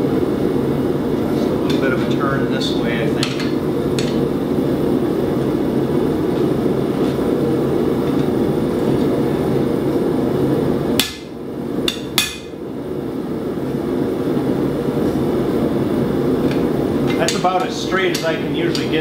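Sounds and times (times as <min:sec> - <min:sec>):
gas forge burner roaring: 0:00.0 - 0:19.0.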